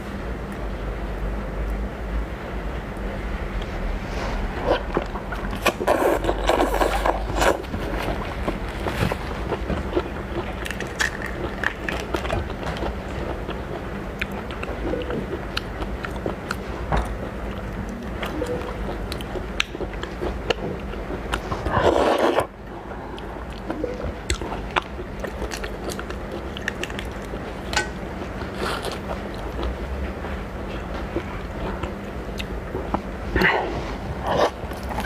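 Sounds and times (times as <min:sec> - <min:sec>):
person chewing crunchy food: 0:04.6 - 0:30.0, 0:30.6 - 0:35.0.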